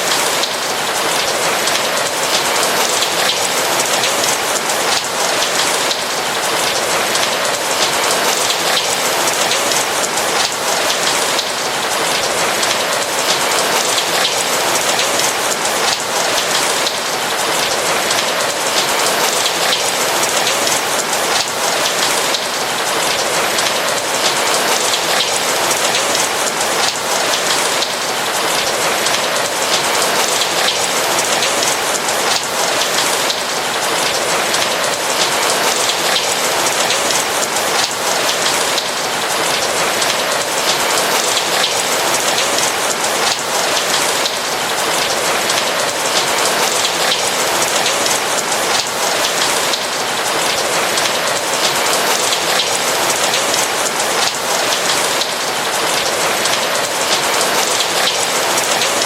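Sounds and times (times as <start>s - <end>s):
rain pattering on a roof: 0.0s - 59.0s.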